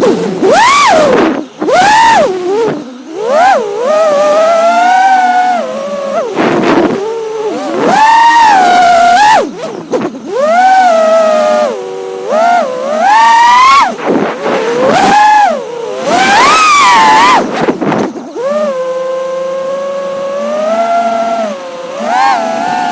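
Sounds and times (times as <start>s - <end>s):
drone motors and propellers whining: 0.0s - 22.9s.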